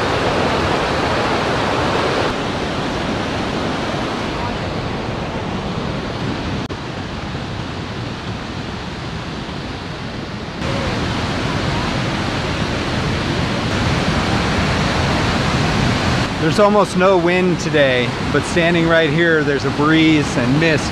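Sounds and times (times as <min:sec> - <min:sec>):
mountain stream and waterfall roar: 0:00.0 - 0:20.9.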